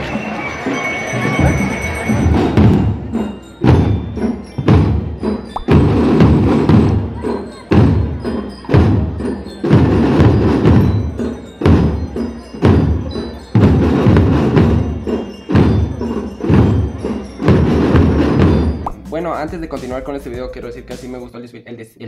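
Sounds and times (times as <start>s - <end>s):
marching band drums: 0.0s - 21.1s.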